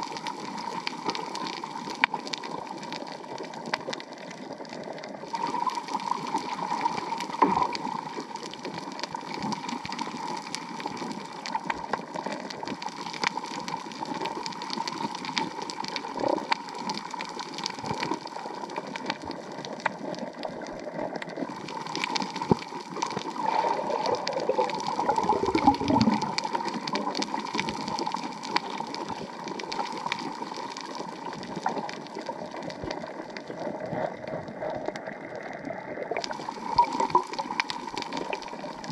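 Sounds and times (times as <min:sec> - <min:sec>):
underwater reef clicks and crackles: 0:00.0 - 0:38.9
gurgling water rush: 0:05.2 - 0:38.9.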